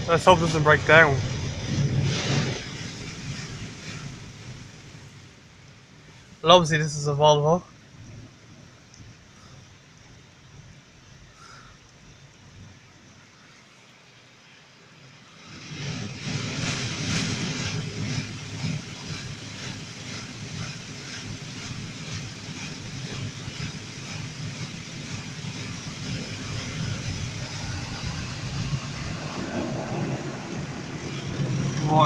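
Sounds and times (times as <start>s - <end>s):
car wash spraying water and brushes: 0.0s - 32.0s.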